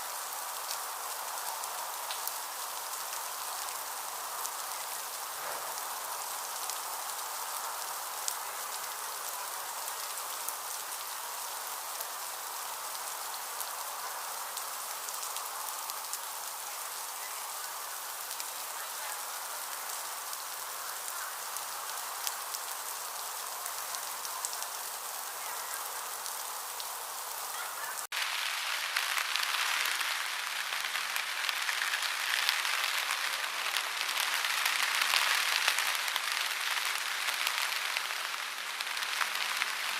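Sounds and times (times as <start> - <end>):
heavy rain downpour: 0.0 - 39.9
steady rain falling: 0.0 - 39.9.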